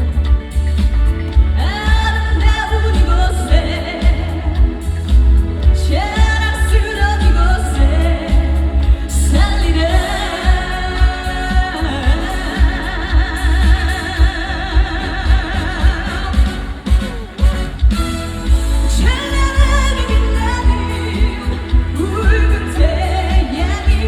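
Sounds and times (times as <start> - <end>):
amplified band with heavy bass: 0.0 - 24.0
woman singing live: 0.0 - 24.0.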